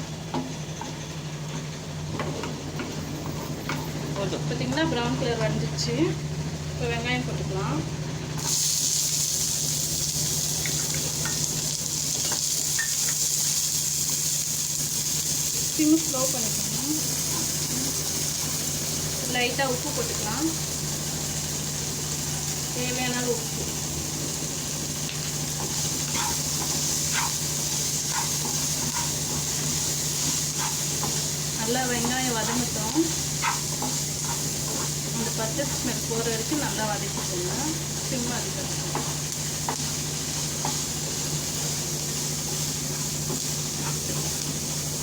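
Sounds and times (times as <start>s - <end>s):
onion sizzling in hot oil: 3.4s - 45.0s.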